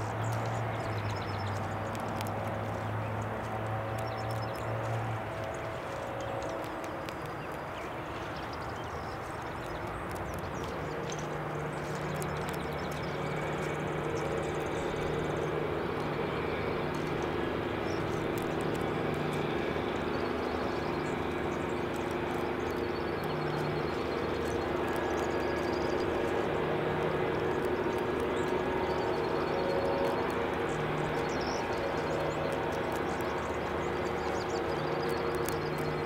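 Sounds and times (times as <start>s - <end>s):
engine drone: 0.0s - 36.0s
low hum: 0.0s - 36.0s.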